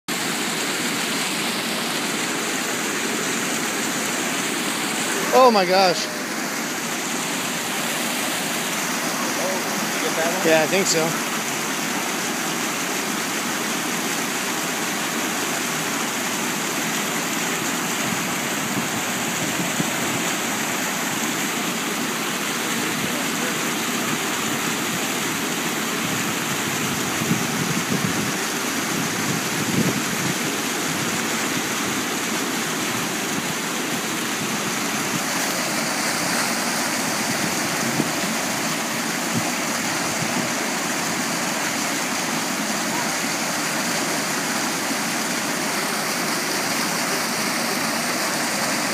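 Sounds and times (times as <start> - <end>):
white water rushing: 0.1 - 48.9.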